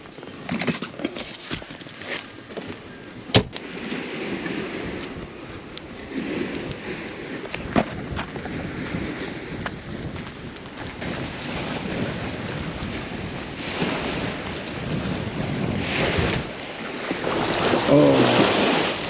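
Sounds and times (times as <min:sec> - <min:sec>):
waves washing against pier: 0:03.1 - 0:19.0
wind buffeting microphone: 0:03.4 - 0:19.0.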